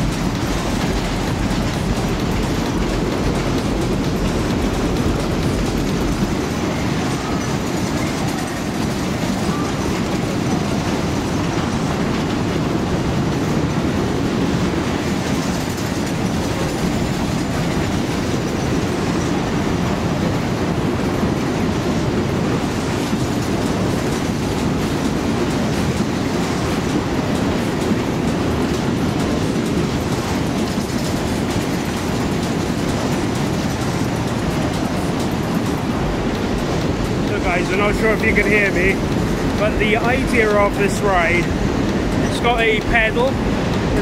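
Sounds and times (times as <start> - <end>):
ride cars rumbling and clattering: 0.0 - 44.0.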